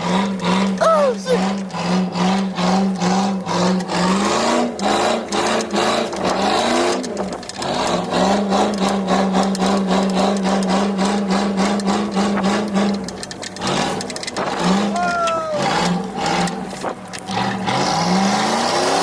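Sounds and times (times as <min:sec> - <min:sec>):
car engine revving hard: 0:00.0 - 0:15.0, 0:15.6 - 0:19.0.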